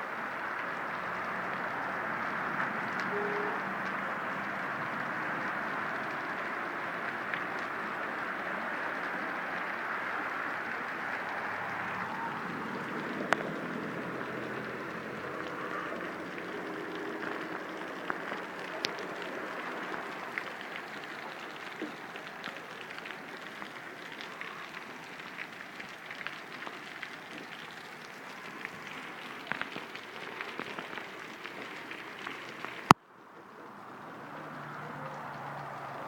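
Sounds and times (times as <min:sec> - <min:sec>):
water hissing and pattering: 0:00.0 - 0:36.0.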